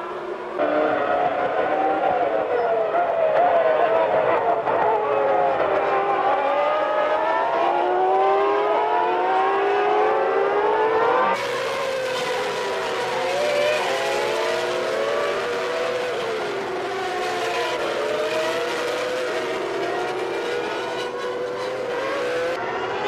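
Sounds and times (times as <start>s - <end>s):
racing car engines revving: 0.0s - 23.0s.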